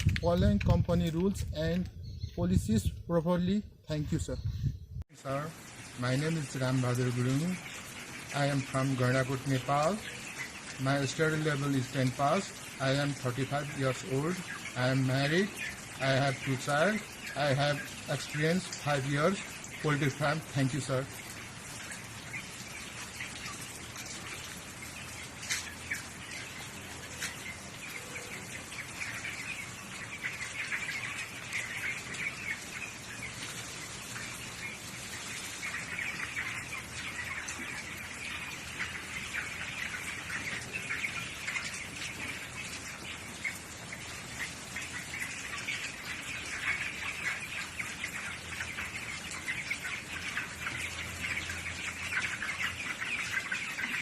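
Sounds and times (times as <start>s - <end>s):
poultry chirping and peeping: 0.0s - 54.0s
hens clucking: 5.3s - 54.0s.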